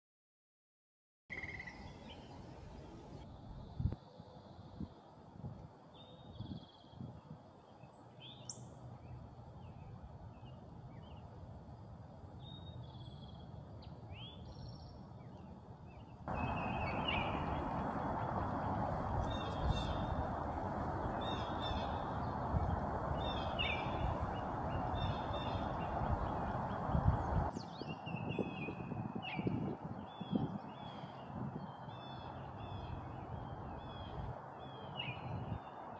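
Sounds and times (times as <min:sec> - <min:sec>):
songbirds calling: 0:01.3 - 0:05.1, 0:06.0 - 0:11.3, 0:12.4 - 0:35.9.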